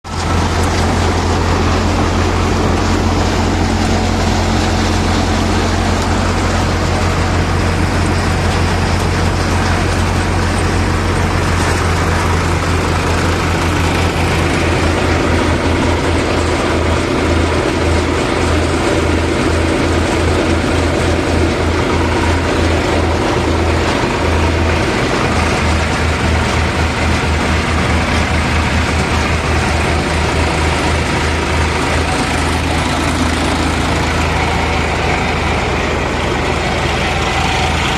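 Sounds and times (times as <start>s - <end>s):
threshing machine noise: 0.0s - 37.9s
tractor engine humming: 0.0s - 37.9s.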